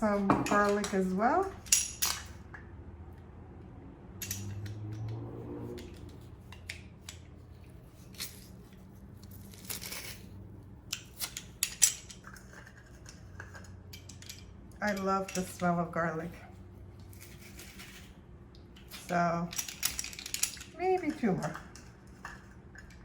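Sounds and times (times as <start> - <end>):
metal utensils clicking and scraping: 0.0 - 2.6, 4.2 - 23.0.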